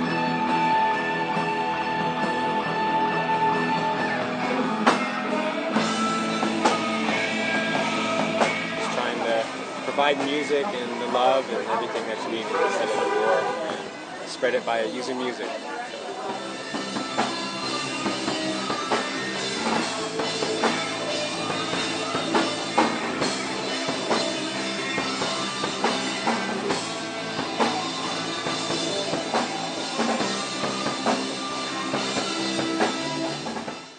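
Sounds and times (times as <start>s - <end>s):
electric guitar: 0.0s - 14.4s, 15.4s - 33.9s
rock band music: 0.0s - 33.9s
drum kit beat: 3.4s - 14.0s, 16.2s - 33.9s.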